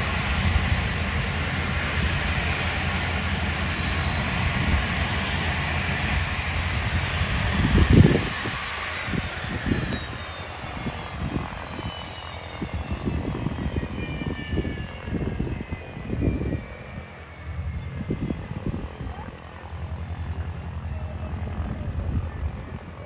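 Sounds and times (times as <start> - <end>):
jet engines whining: 0.0 - 23.0
wind rumbling on microphone: 0.0 - 23.0.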